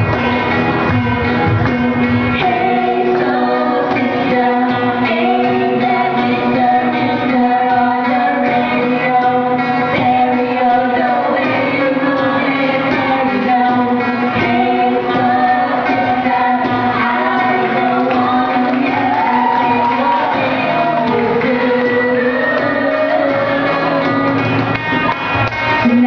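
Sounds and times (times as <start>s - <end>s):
acoustic accompaniment: 0.0s - 26.0s
people singing together: 1.2s - 26.0s.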